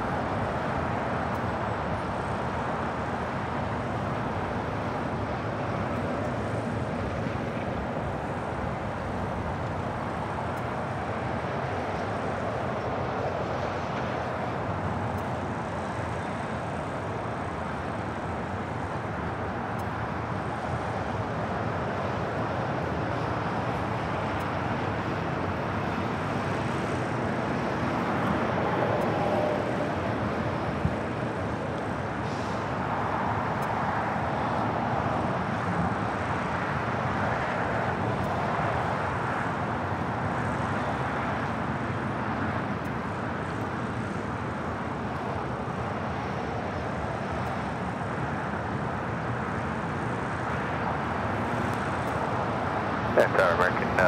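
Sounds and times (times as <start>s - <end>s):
distant jet engines: 0.0s - 54.0s
road traffic roar: 0.0s - 54.0s.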